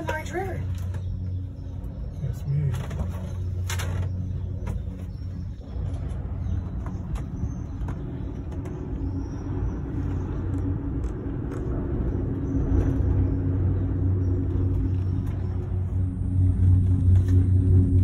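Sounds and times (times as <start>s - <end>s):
gondola cabin rumble and hum: 0.0s - 18.0s.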